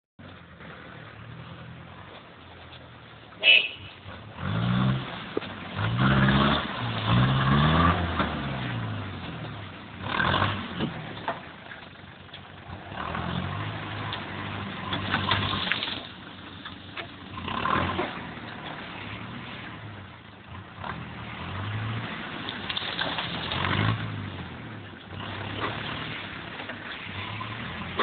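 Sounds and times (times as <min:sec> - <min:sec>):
engine revving in surges: 0:03.4 - 0:11.6, 0:12.5 - 0:16.3, 0:17.2 - 0:28.0.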